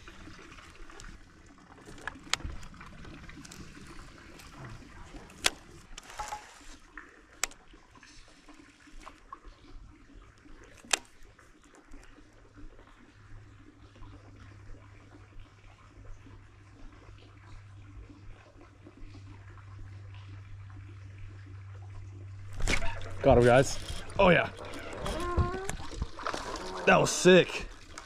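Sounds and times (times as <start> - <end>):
low steady hum: 0.0 - 28.0
water lapping: 0.0 - 28.0.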